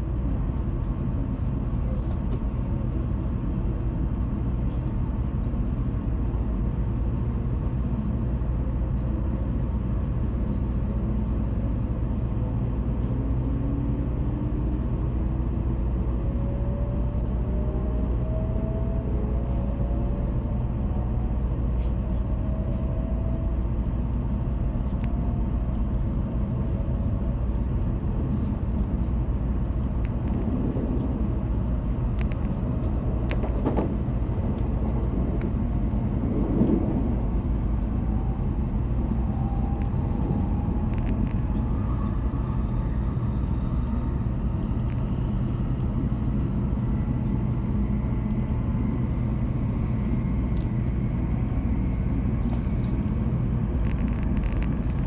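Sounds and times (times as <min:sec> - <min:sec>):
train cabin low rumble: 0:00.0 - 0:55.0.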